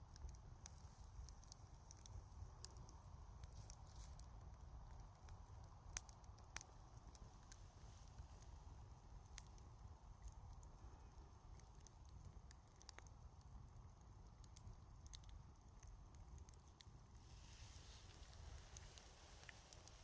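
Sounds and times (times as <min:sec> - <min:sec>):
low steady rumble: 0:00.0 - 0:20.0
sharp snaps and pops: 0:00.0 - 0:20.0
wood fire crackling: 0:00.0 - 0:20.0.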